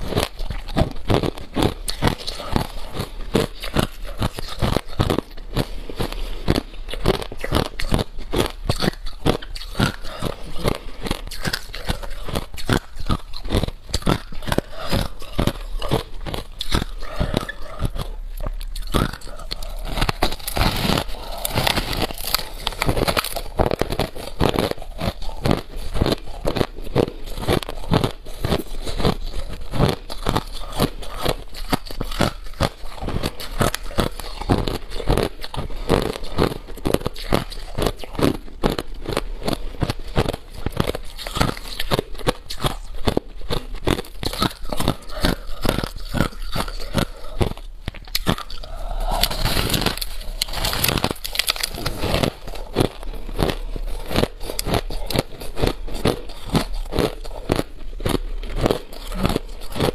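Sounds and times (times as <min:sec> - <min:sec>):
person chewing crushed ice: 0:00.0 - 0:59.9.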